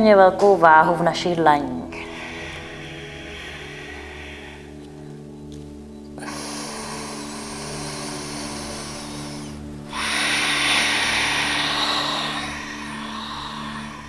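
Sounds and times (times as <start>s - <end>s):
person breathing deeply: 1.9s - 14.0s.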